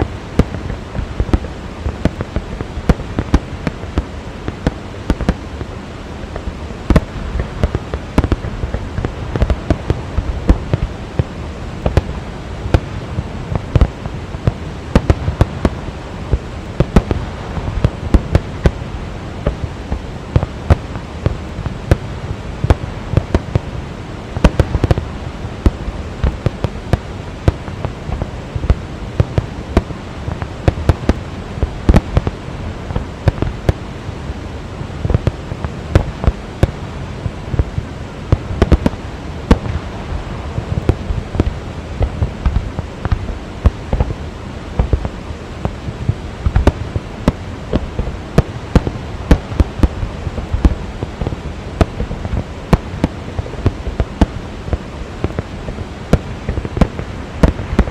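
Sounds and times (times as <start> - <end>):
fireworks bursting: 0.0 - 57.9
waterfall roaring: 0.0 - 57.9.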